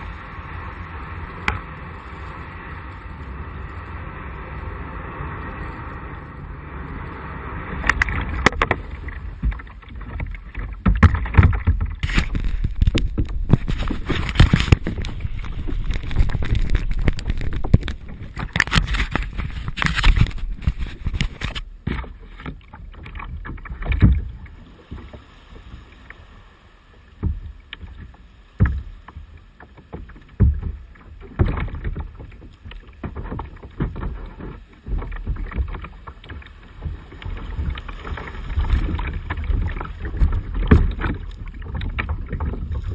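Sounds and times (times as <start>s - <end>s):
low rumbling: 0.0s - 42.9s
paddle splashing in water: 6.6s - 42.9s.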